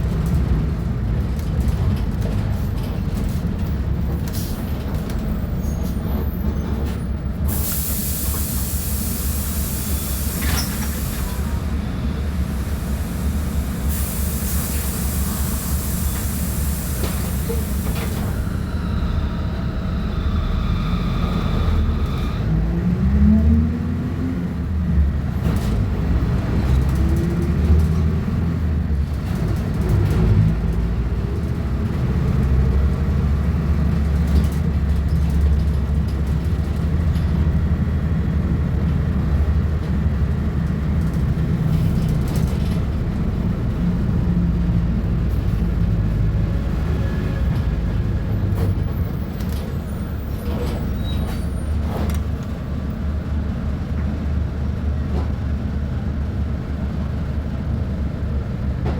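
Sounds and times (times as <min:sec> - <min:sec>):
bus diesel engine droning: 0:00.0 - 0:58.9.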